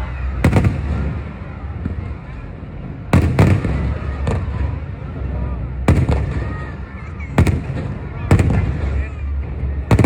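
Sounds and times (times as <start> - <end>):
low rumble of fireworks: 0.0 - 10.0
fireworks bangs: 0.3 - 10.0.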